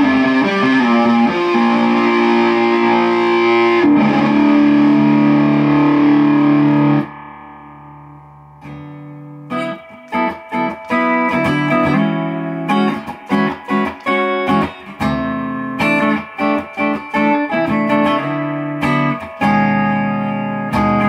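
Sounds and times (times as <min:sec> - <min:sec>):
electric guitar chord stabs: 0:00.0 - 0:21.0.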